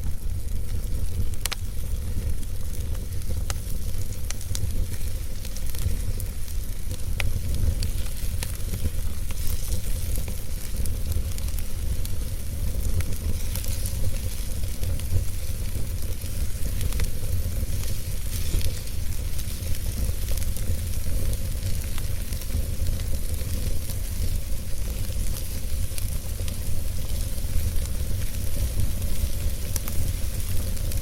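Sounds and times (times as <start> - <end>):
flames crackling and snapping: 0.0 - 31.0
wood fire burning: 0.0 - 31.0.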